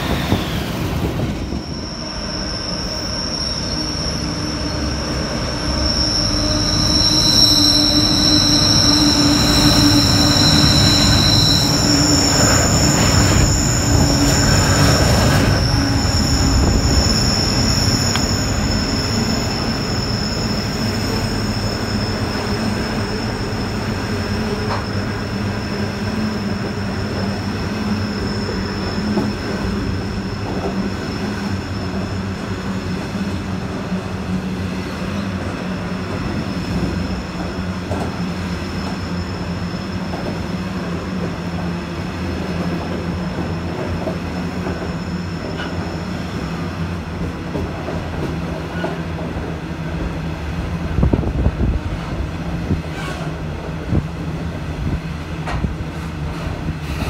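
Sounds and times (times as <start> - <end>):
freight train rumble: 0.0 - 57.0
train wheel squeal: 0.0 - 57.0.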